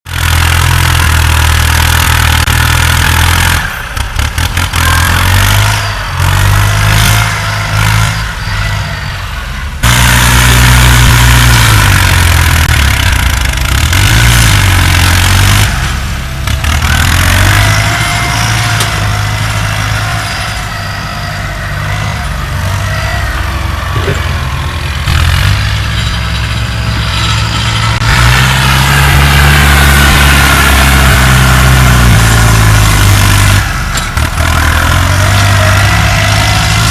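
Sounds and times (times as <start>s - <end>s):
earthmoving machinery diesel engines: 0.1s - 36.9s.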